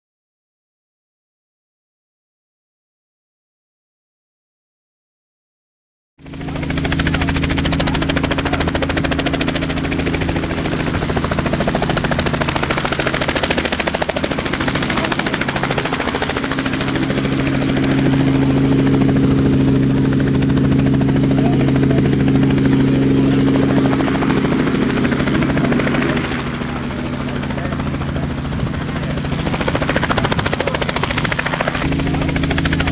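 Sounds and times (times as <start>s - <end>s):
helicopter engine drone: 6.2s - 32.9s
helicopter rotor chop: 6.2s - 32.9s.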